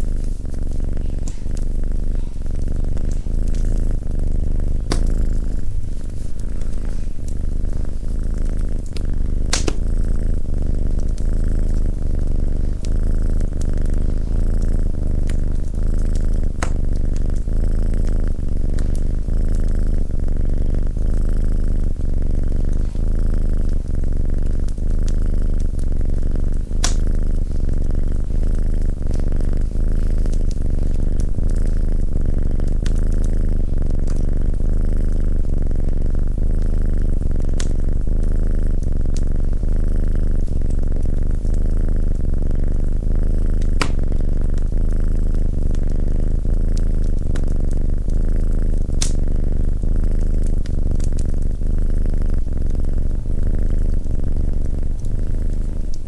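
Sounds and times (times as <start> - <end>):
cat purring: 0.0 - 56.0
wood fire crackling and popping: 0.0 - 56.0.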